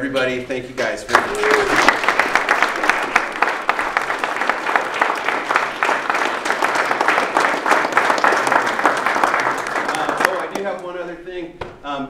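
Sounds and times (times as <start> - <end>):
crowd applauding: 1.1 - 10.8.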